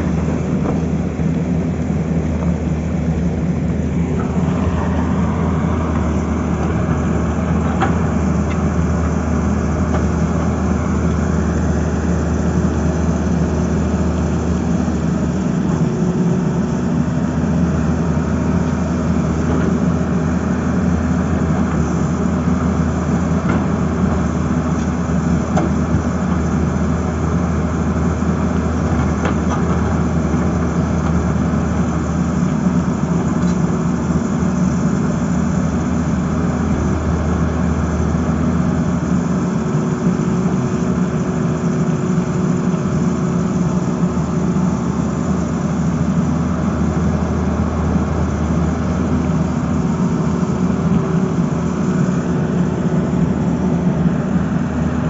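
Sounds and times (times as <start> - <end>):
excavator diesel engine drone: 0.0 - 55.0.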